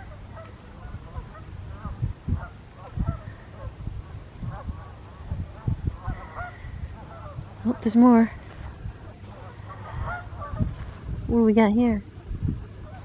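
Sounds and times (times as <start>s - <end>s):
geese and swans honking: 0.0s - 3.8s, 4.5s - 11.0s, 12.8s - 13.0s.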